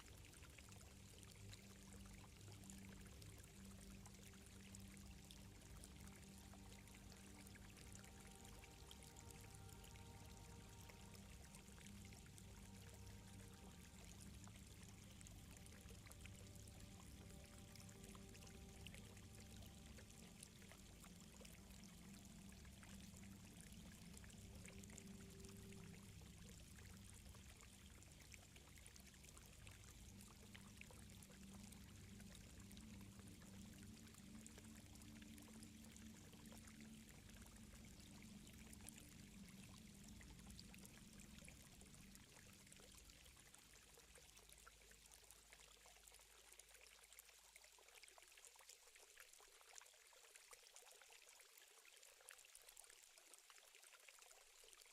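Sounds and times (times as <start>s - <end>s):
soft low drone: 0.0s - 47.1s
gently flowing water: 0.0s - 54.9s.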